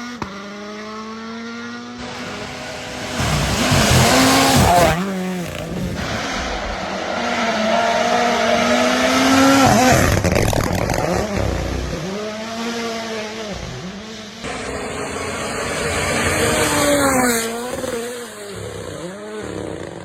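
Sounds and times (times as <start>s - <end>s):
rally car engine at full throttle: 0.0s - 20.0s
second car engine: 0.0s - 20.0s.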